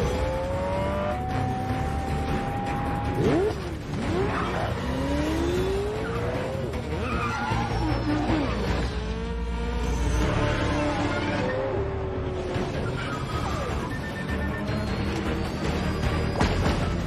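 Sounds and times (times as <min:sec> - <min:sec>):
tyres squealing and skidding: 0:00.0 - 0:09.1, 0:09.8 - 0:17.0
vehicle engines revving: 0:00.0 - 0:17.0.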